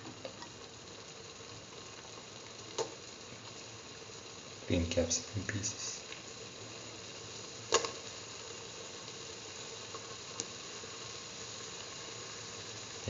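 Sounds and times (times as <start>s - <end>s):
paste sizzling in a frying pan: 0.0s - 13.0s.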